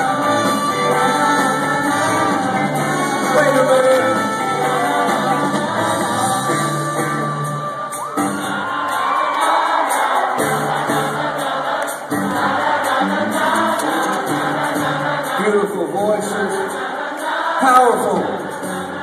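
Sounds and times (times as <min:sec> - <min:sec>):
live rock band playing: 0:00.0 - 0:16.5
crowd noise: 0:00.0 - 0:19.0
singing voices: 0:00.0 - 0:19.0.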